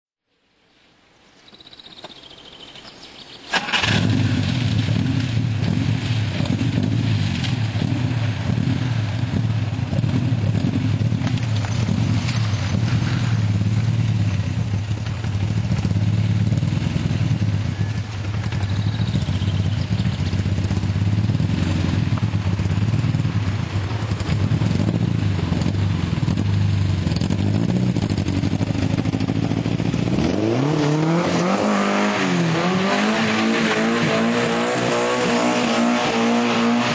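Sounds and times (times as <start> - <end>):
car engine starting and running: 1.6 - 36.9.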